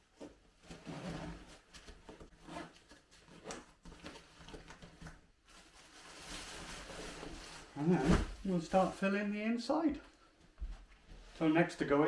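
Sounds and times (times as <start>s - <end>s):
plastic and fabric bags rustling: 0.0s - 9.8s.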